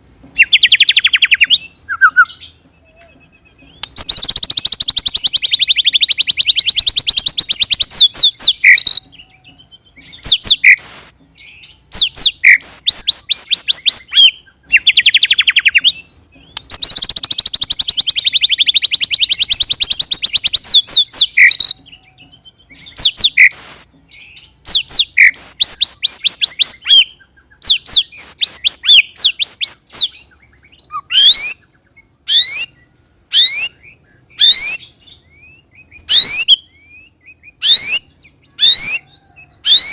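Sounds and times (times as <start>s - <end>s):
bird whistles sweeping up and down: 0.4s - 2.6s, 3.7s - 9.0s, 10.1s - 21.8s, 22.8s - 31.6s, 32.3s - 39.0s.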